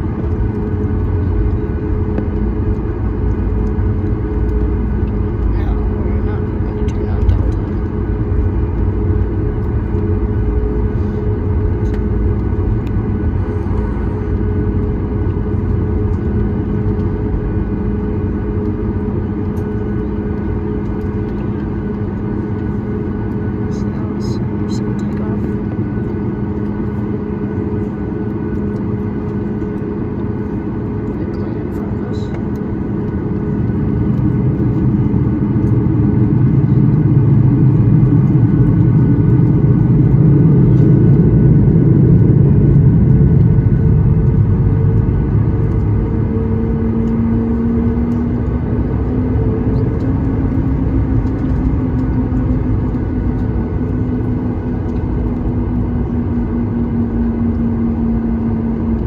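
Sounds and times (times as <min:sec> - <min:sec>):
jet engines at taxi power: 0:00.0 - 0:59.0
low cabin rumble: 0:00.0 - 0:59.0.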